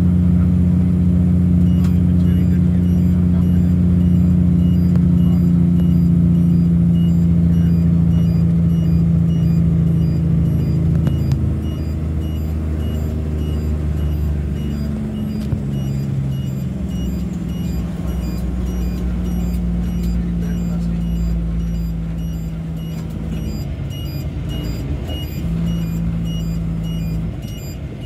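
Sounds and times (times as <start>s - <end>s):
diesel truck engine drone: 0.0s - 28.0s.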